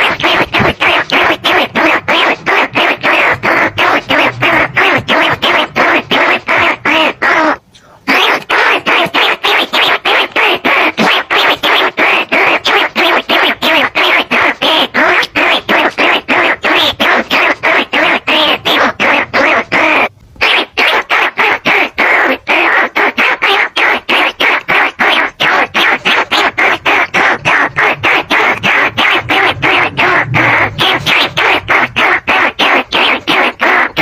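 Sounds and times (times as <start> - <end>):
rat squeaks: 0.0 - 34.0.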